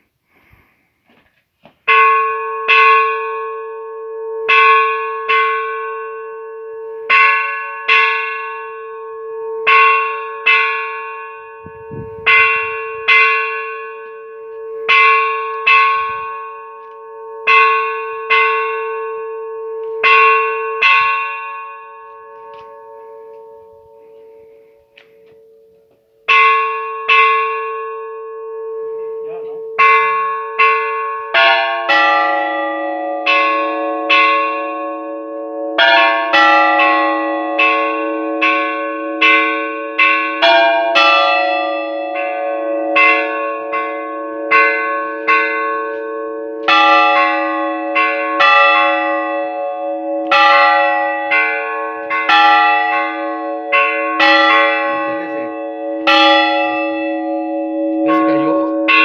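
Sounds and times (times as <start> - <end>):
church bells ringing: 1.8 - 59.0.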